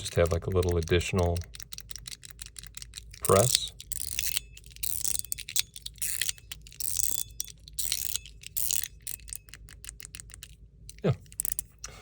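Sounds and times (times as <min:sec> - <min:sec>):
metal fidget slider clacking: 0:00.0 - 0:11.9.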